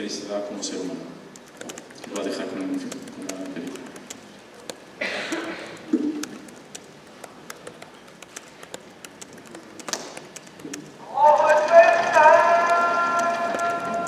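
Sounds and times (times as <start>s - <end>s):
person speaking: 1.4s - 14.0s.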